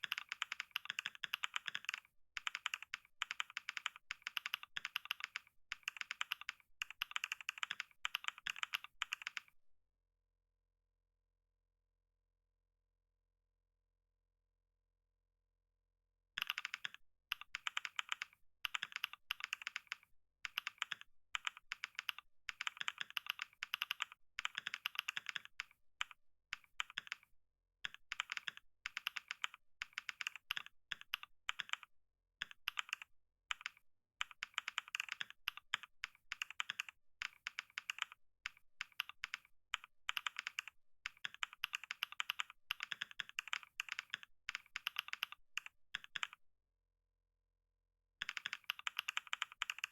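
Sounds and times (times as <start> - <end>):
fast keyboard typing: 0.0 - 9.5, 16.4 - 46.4, 48.2 - 49.9.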